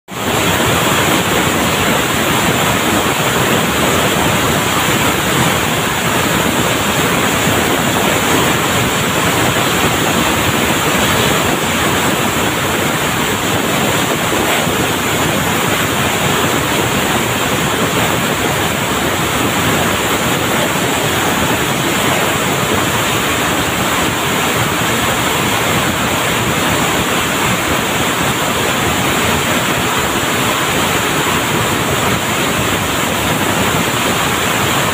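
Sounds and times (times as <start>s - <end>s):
textile mill machinery roar: 0.1s - 34.9s.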